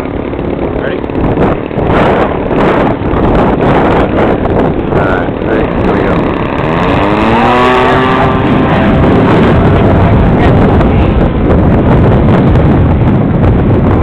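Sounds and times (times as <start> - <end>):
model airplane engine running: 0.0 - 14.0
wind buffeting microphone: 0.0 - 14.0.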